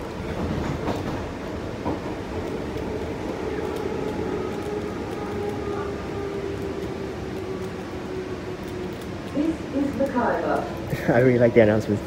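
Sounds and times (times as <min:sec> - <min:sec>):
train motor whine: 0:00.0 - 0:10.8
train wheels rumbling on track: 0:00.0 - 0:12.0.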